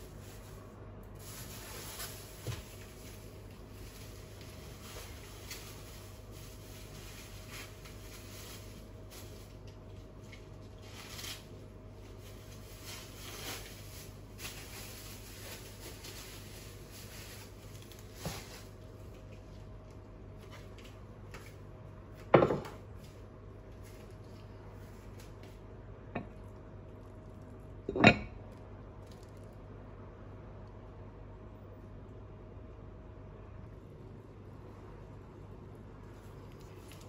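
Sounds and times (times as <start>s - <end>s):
pot cooking hum and hiss: 0.0s - 37.0s.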